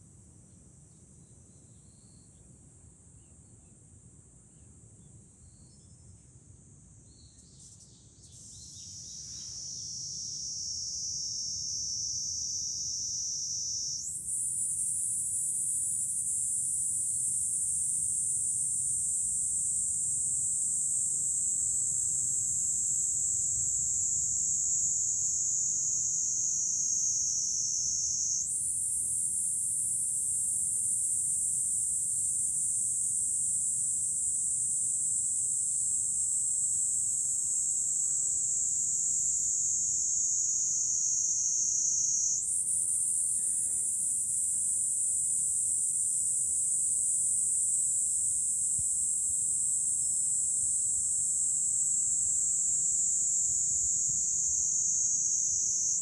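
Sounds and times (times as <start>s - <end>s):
cicadas buzzing: 7.5s - 56.0s.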